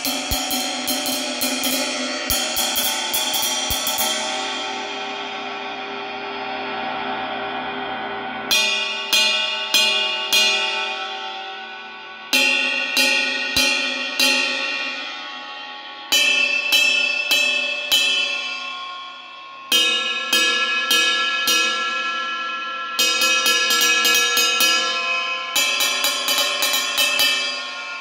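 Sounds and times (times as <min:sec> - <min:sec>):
drumstick striking ride cymbal: 0:00.0 - 0:07.3, 0:08.5 - 0:28.0.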